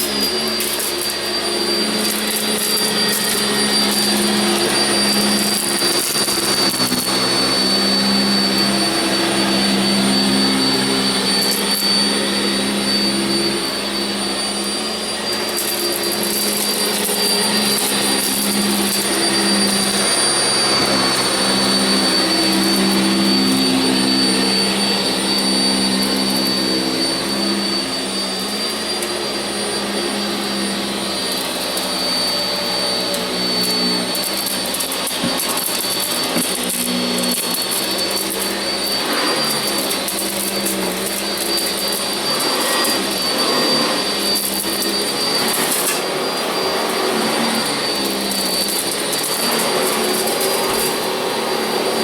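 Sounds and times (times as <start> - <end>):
vacuum cleaner running over carpet: 0.0 - 52.0.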